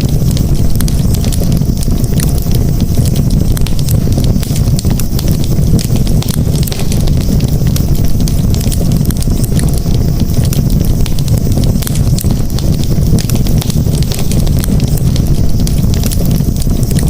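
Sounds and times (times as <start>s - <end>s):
campfire crackling and popping: 0.0s - 17.0s
low rumble of burning flames: 0.0s - 17.0s.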